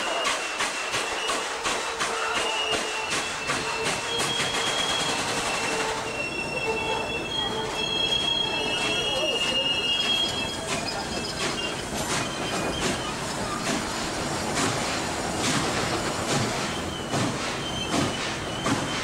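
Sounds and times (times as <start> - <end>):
high wheel squeal: 0.0 - 13.8, 16.6 - 19.0
steam locomotive running noise: 0.0 - 19.0.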